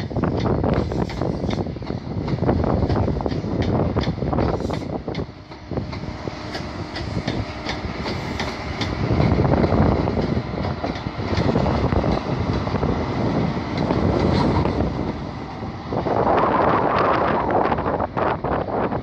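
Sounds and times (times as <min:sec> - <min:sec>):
train wheels clicking over rail joints: 0:00.0 - 0:18.6
diesel train engine running: 0:00.0 - 0:19.0.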